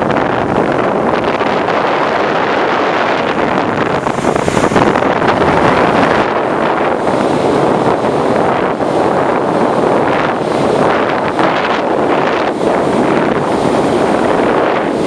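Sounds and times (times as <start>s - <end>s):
boat motor: 0.0s - 15.0s
rushing water: 0.0s - 15.0s
wind buffeting microphone: 0.0s - 15.0s.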